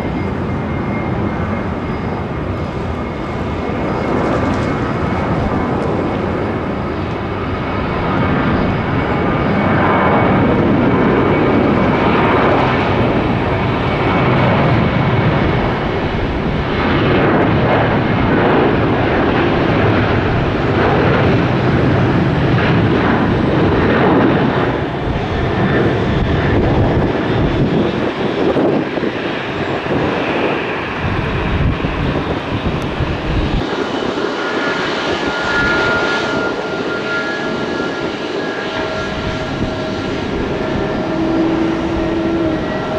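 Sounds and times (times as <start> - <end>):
airliner engines rumbling: 0.0 - 42.9.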